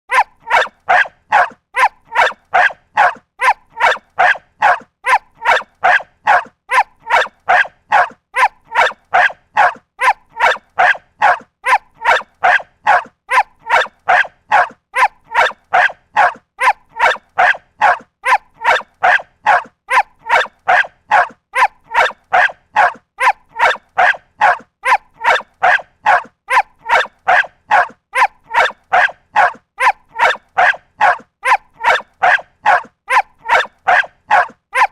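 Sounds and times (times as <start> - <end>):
dog barking: 0.1 - 34.9.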